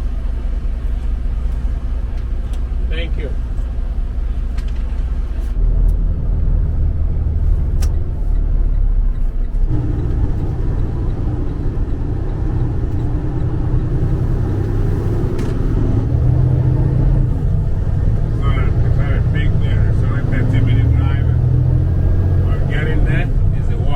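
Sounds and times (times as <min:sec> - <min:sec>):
truck diesel engine rumble: 0:00.0 - 0:23.9.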